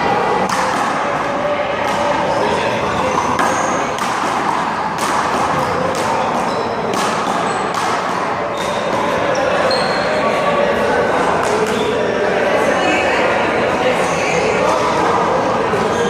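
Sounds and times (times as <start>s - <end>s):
background chatter: 0.0s - 16.0s.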